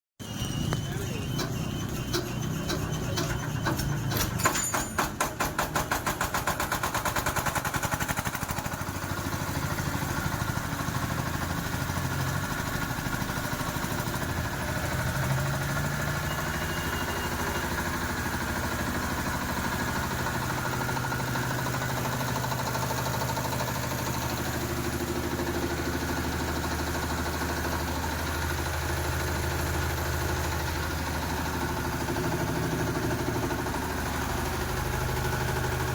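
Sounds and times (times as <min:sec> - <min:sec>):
diesel generator starting: 0:00.2 - 0:35.9.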